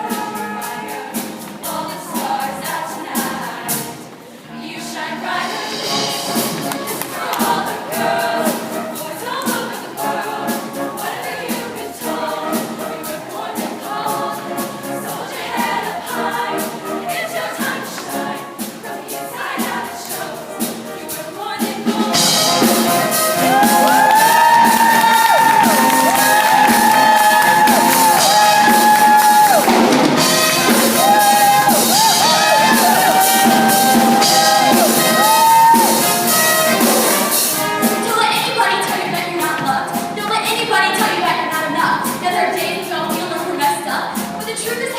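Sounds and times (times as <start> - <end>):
girls choir singing: 0.0 - 44.9
musical accompaniment: 0.0 - 44.9.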